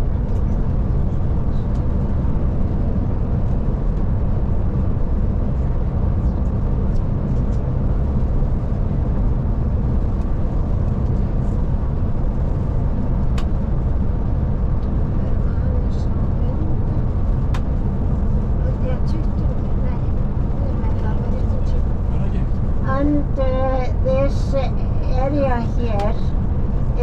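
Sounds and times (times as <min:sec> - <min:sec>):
engine and road noise drone: 0:00.0 - 0:27.0.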